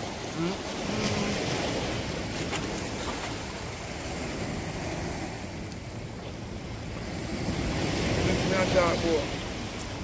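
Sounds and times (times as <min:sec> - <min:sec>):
surf: 0:00.0 - 0:10.0.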